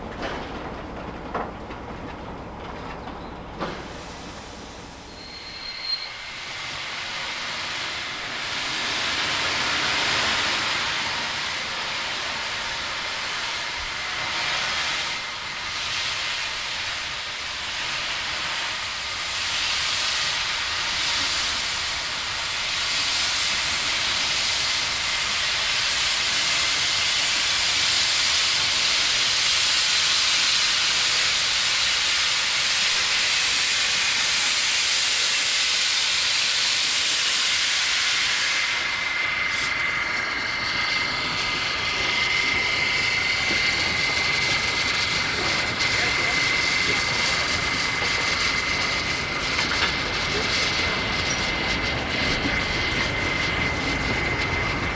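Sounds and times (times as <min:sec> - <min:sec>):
steam locomotive hissing: 0:03.1 - 0:54.9.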